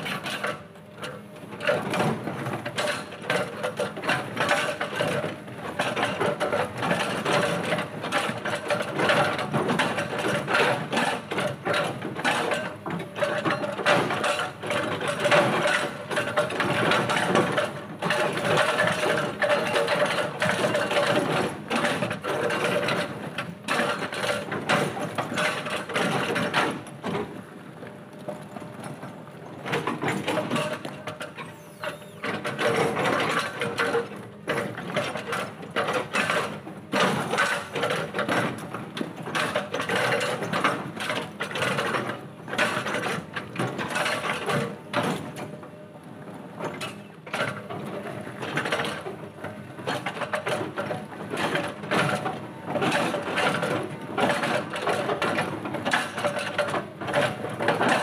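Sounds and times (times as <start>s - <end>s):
hydraulic breaker pounding rock: 0.0s - 27.4s, 29.6s - 45.5s, 49.8s - 58.0s.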